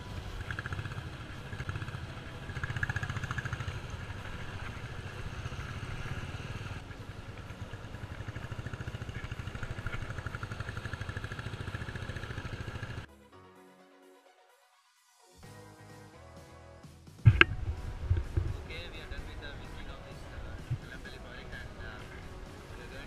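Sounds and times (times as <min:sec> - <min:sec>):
motorcycle engine running: 0:00.0 - 0:13.1, 0:17.2 - 0:23.0.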